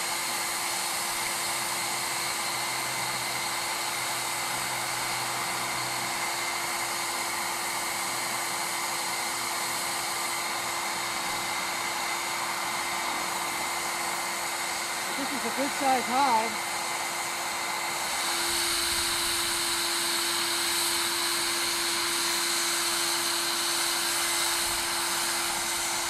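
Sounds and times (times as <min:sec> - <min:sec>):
vacuum air rush and hum: 0:00.0 - 0:26.0.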